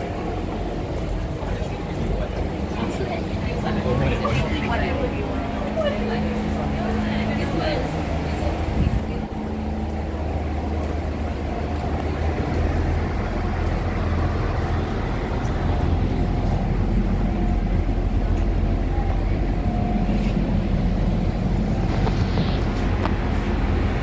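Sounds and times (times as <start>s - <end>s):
metro train rumble and hum: 0.0s - 24.0s.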